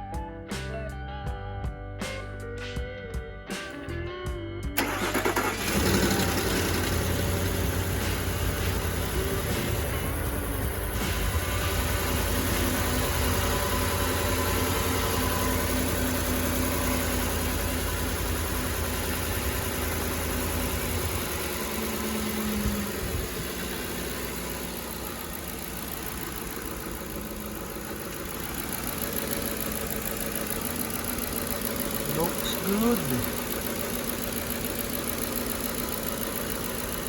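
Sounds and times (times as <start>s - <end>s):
truck engine idling: 4.8s - 37.0s.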